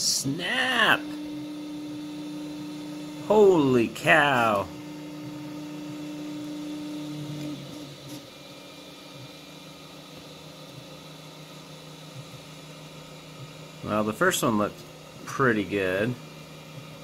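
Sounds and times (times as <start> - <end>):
hum of motors and fans: 0.0 - 17.0
printer motor whine: 0.0 - 17.0.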